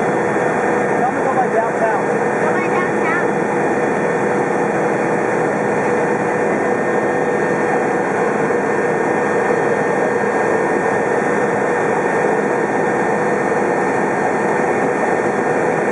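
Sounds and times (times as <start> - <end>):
helicopter engine and rotor drone: 0.0 - 15.9.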